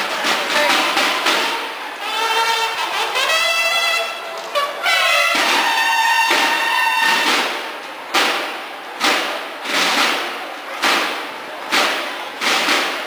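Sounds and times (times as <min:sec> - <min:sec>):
drum beats: 0:00.0 - 0:03.4, 0:04.0 - 0:13.0.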